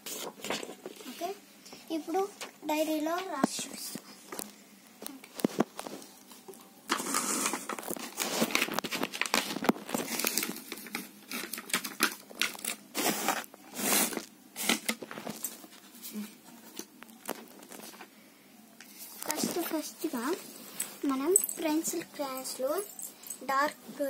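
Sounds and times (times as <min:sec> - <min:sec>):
handling plastic boxes and crayons: 0:00.0 - 0:18.1, 0:18.8 - 0:23.4.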